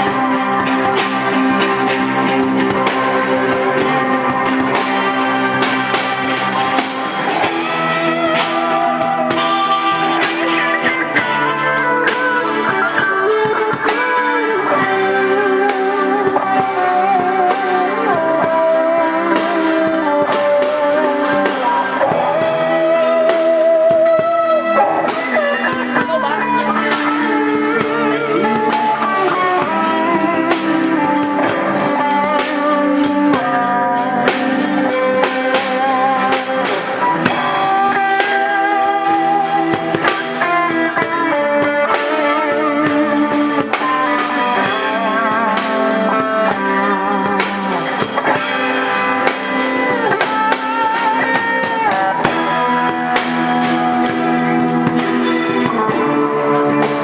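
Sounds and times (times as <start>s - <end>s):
drum beat: 0.0s - 57.0s
lead guitar melody: 0.0s - 57.0s
rhythm guitar chords: 0.0s - 57.0s.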